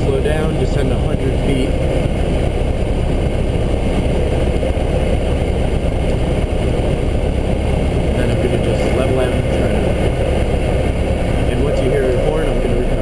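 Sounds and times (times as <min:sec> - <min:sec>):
aircraft engine idling: 0:00.0 - 0:13.0
wind noise in cabin: 0:00.0 - 0:13.0.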